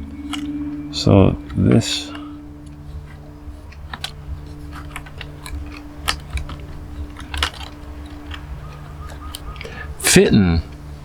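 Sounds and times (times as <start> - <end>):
steady low hum: 0.0 - 11.0
small parts clicking and tapping: 0.1 - 11.0.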